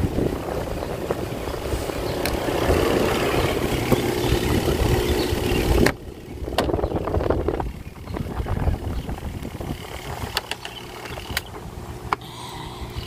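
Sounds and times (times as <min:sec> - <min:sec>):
washing machine spin motor whir: 0:00.0 - 0:12.1.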